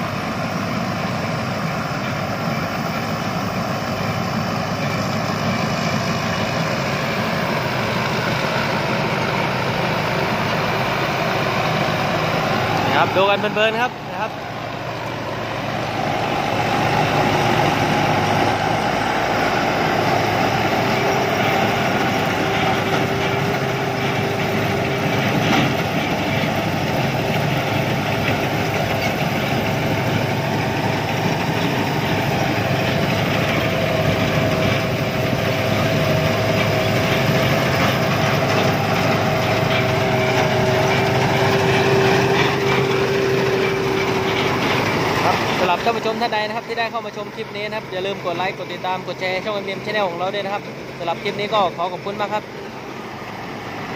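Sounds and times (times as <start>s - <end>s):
combine harvester engine drone: 0.0s - 53.9s
steady machine whine: 0.0s - 53.9s.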